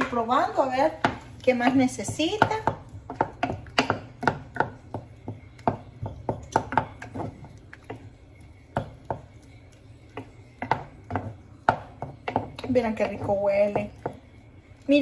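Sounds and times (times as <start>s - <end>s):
wooden spoon knocking metal pot: 0.0s - 8.1s, 10.1s - 14.3s.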